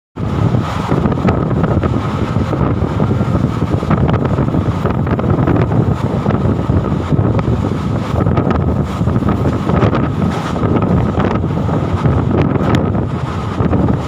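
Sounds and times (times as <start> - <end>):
train rumbling: 0.2 - 14.0
wind buffeting microphone: 0.2 - 14.0.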